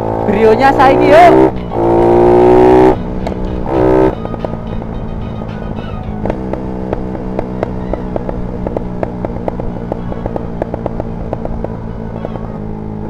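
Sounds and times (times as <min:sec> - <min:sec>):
exhaust popping and crackling: 0:00.0 - 0:13.0
motorcycle engine droning: 0:00.0 - 0:13.0.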